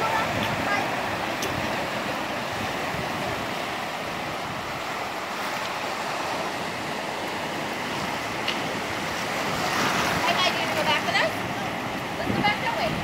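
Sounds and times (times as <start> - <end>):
surf washing over rocks: 0.0 - 13.0.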